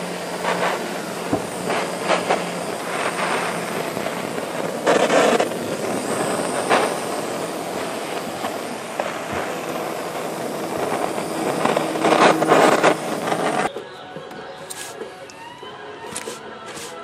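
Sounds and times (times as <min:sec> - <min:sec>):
gas torch hissing roar: 0:00.0 - 0:17.0.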